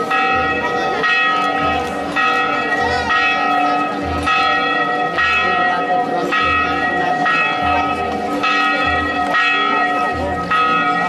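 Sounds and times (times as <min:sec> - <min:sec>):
church bell tolling: 0:00.0 - 0:11.0.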